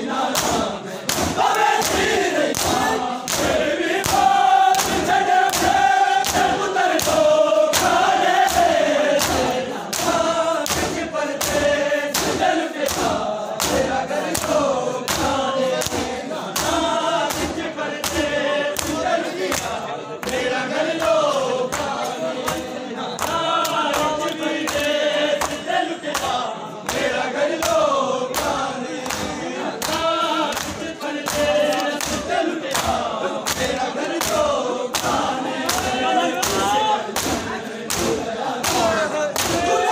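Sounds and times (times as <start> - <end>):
crowd beating chests in unison: 0.0 - 39.9
men chanting in chorus: 0.0 - 39.9.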